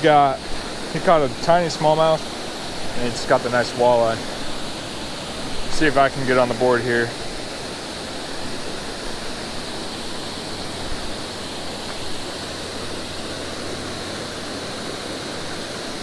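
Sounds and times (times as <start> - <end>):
waterfall roaring over rock: 0.0 - 16.0.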